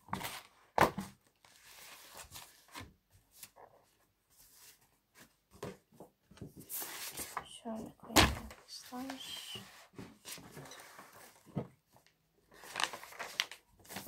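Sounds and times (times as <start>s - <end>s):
paper pages rustling and turning: 0.1s - 14.0s.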